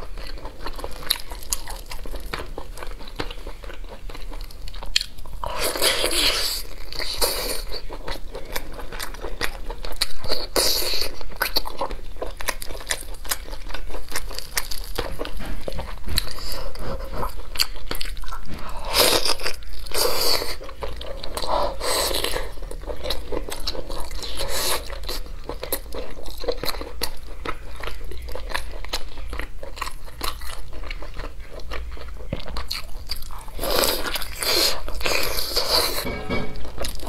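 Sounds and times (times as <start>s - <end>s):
biting and chewing chicken: 0.0s - 37.0s.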